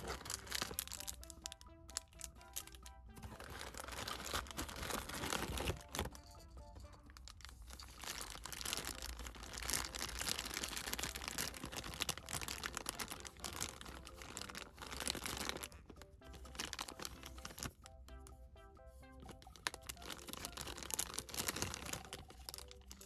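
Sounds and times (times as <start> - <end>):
plastic bags crinkling: 0.0 - 17.9, 19.2 - 23.0
light background music: 0.0 - 23.0.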